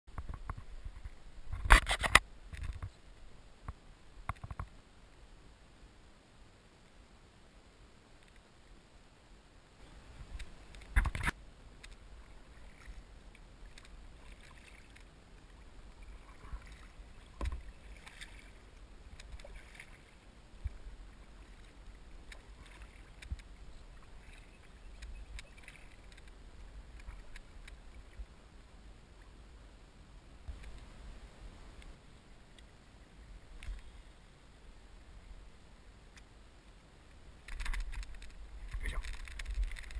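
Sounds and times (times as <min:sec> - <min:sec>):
quiet paddling in water: 0:00.1 - 0:39.9.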